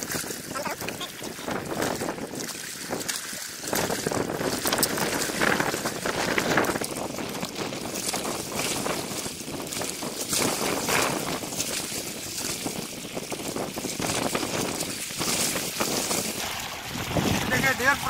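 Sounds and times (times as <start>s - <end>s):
water washing against rocky shore: 0.0s - 18.0s
wind buffeting microphone: 0.0s - 18.0s.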